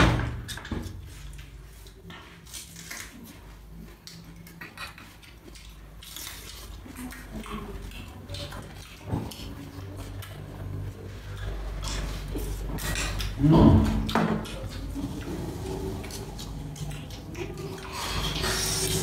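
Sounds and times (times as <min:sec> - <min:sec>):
chewing: 0:00.6 - 0:19.0.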